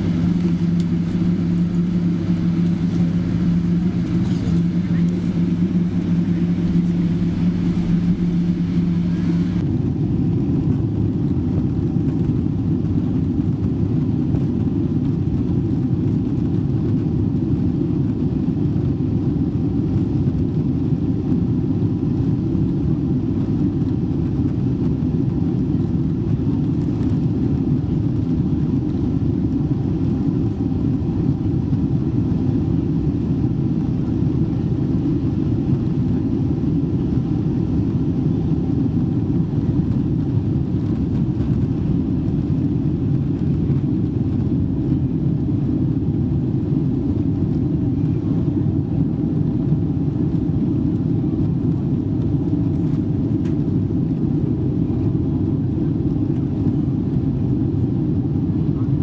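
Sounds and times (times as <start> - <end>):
low rumble of jet engines: 0.0 - 59.0
steady hum: 0.0 - 59.0.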